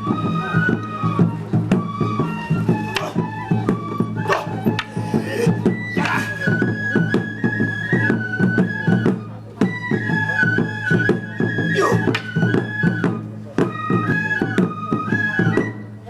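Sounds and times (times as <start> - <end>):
flute melody: 0.0 - 16.0.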